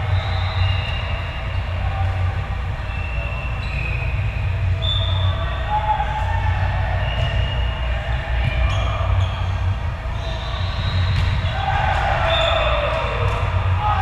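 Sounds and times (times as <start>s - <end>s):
low rumble of echoing hall: 0.0s - 14.0s.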